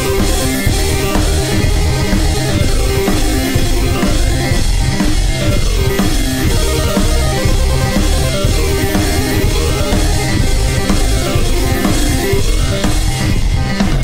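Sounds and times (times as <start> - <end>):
rock music with drums and guitar: 0.0 - 14.0.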